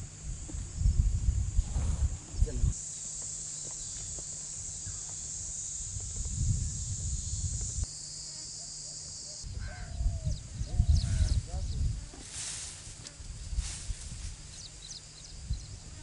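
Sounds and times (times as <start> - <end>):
high-pitched insect drone: 2.2 - 16.0.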